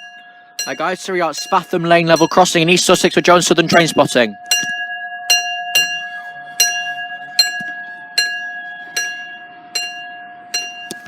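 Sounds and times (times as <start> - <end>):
level crossing alarm bell ringing: 0.0 - 11.0.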